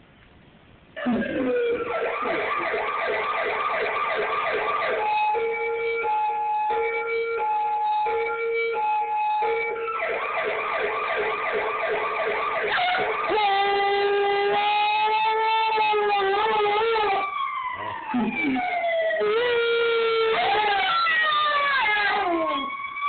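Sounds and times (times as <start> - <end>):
emergency siren wailing: 1.0 - 23.0.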